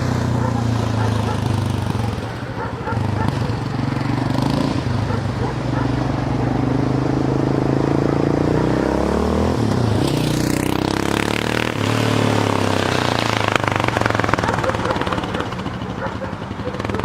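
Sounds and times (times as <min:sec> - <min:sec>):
quad bike engine running loud: 0:00.0 - 0:17.0.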